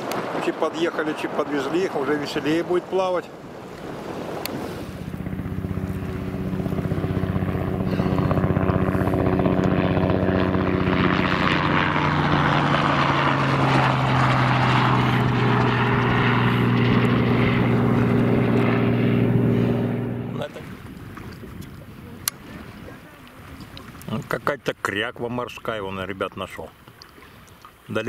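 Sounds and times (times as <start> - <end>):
helicopter flying past: 0.0 - 23.6.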